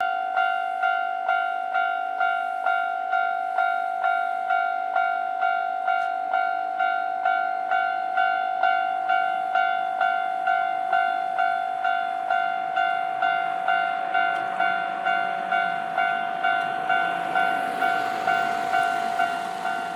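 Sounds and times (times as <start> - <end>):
level-crossing warning bell ringing: 0.0 - 19.9.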